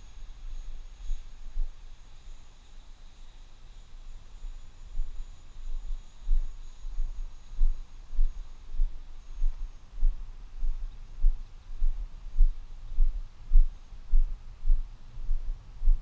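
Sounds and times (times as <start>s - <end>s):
high electric fan whine: 0.0s - 16.0s.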